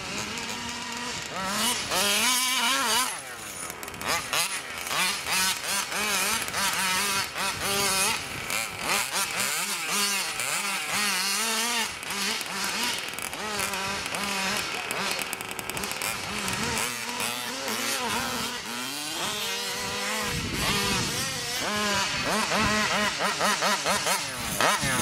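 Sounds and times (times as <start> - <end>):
two-stroke engine revving: 0.0 - 25.0.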